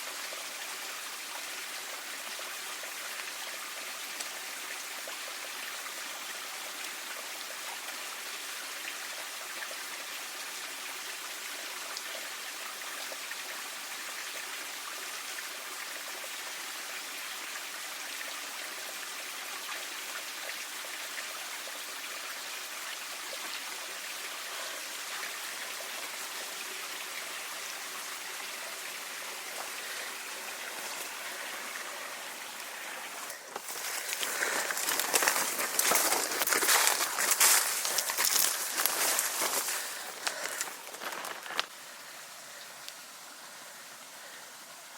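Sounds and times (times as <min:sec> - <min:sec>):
stream water running: 0:00.0 - 0:44.9.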